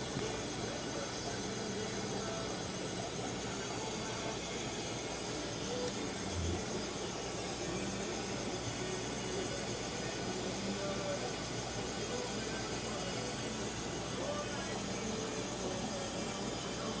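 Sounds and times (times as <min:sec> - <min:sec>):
aquarium filters and air pumps: 0:00.0 - 0:17.0.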